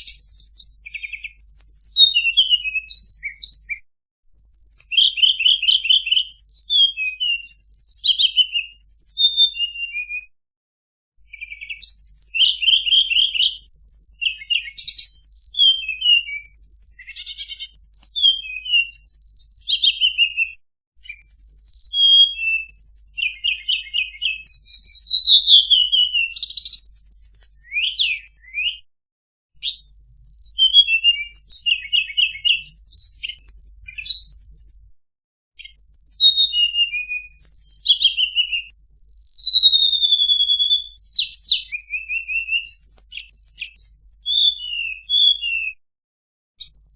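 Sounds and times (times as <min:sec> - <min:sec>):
songbird singing: 0:00.0 - 0:03.8, 0:04.4 - 0:10.3, 0:11.2 - 0:28.8, 0:29.6 - 0:34.9, 0:35.6 - 0:45.8, 0:46.6 - 0:46.9.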